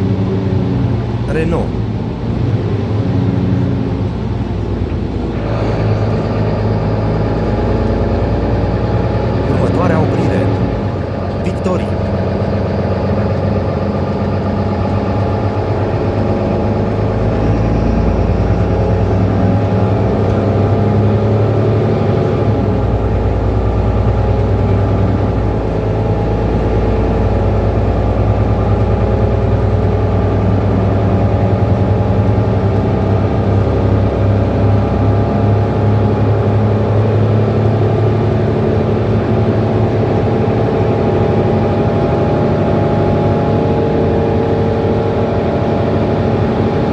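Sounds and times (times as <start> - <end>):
bus engine drone: 0.0 - 46.9.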